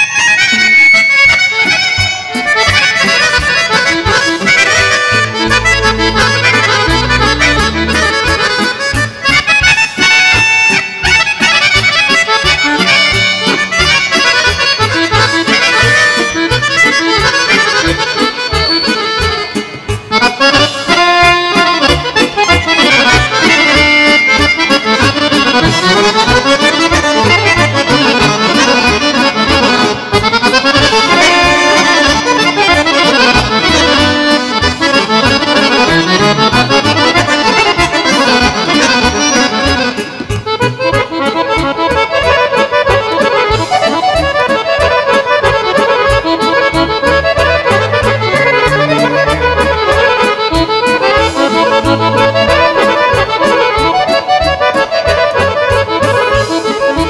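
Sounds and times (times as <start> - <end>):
band playing steady beat: 0.0 - 57.0
button accordions playing folk tune: 0.0 - 57.0.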